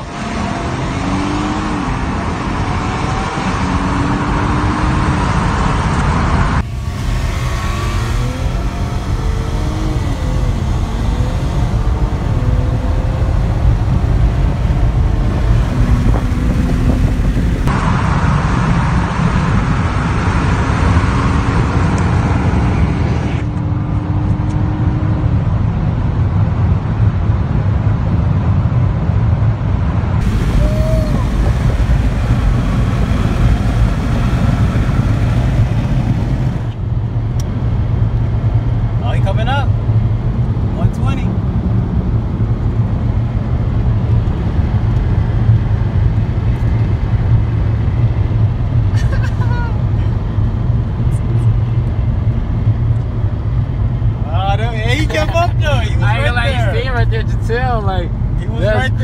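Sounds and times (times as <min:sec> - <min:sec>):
car engine accelerating: 0:00.0 - 0:27.0, 0:30.1 - 0:59.0
wind and road noise: 0:00.0 - 0:59.0.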